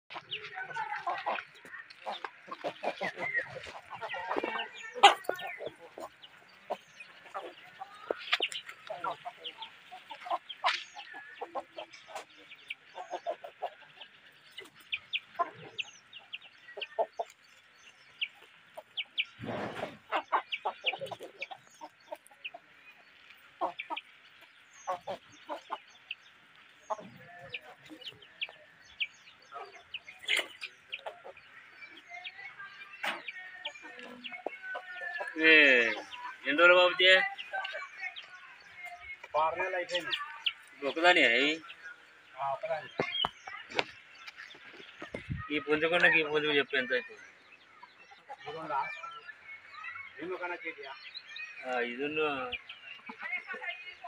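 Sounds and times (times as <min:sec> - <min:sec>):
chickens clucking: 0:00.1 - 0:54.0.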